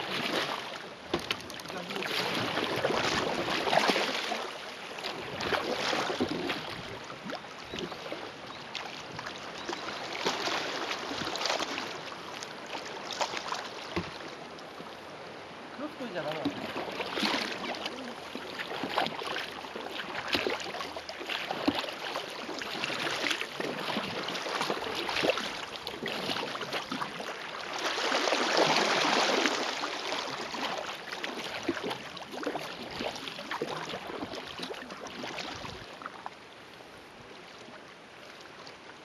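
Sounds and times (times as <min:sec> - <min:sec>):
canoe paddle strokes splashing: 0:00.0 - 0:39.0
river water rushing along hull: 0:00.0 - 0:39.0.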